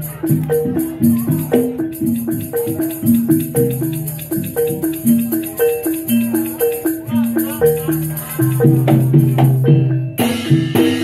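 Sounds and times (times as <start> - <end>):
gamelan metallophones playing: 0.0 - 11.0
high rattling percussion: 0.0 - 11.0.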